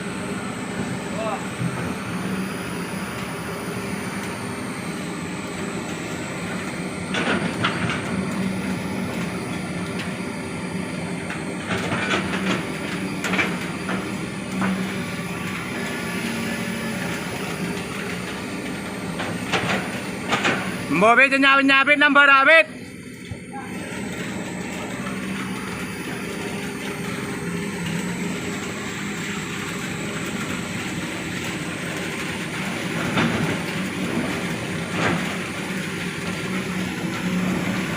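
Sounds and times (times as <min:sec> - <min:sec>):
heavy diesel engine running: 0:00.0 - 0:37.9.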